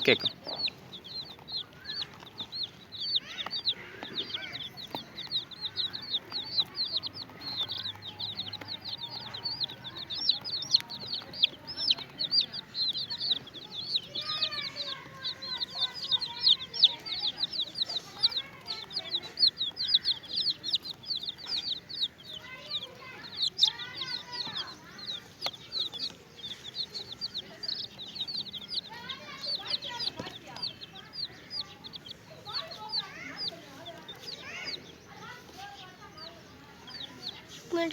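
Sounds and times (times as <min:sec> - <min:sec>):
chicks peeping: 0:00.0 - 0:37.9
hen calling: 0:00.0 - 0:37.9.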